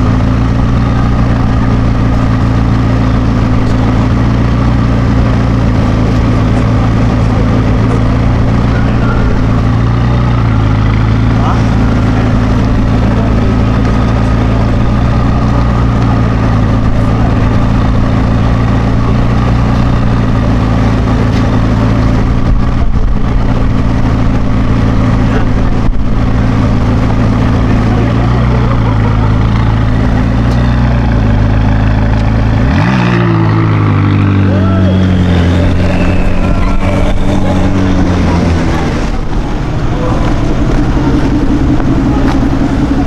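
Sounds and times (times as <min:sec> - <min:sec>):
sports car engine idling: 0:00.0 - 0:43.0
sports car engine revving: 0:00.0 - 0:43.0.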